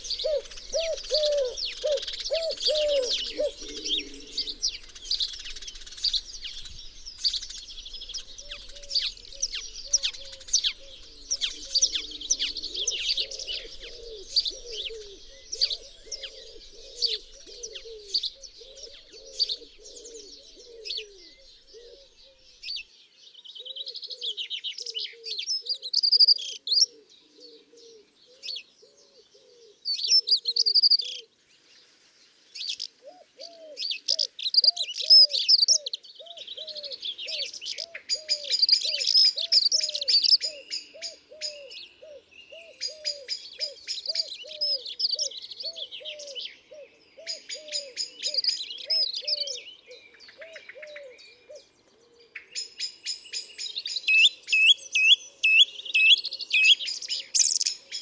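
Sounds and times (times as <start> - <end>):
dove cooing: 0.0 - 22.8, 23.6 - 31.3, 32.8 - 52.6
blackbird singing: 0.0 - 31.3, 32.5 - 58.0
small birds twittering: 0.0 - 58.0
sparrows chirping: 0.0 - 58.0.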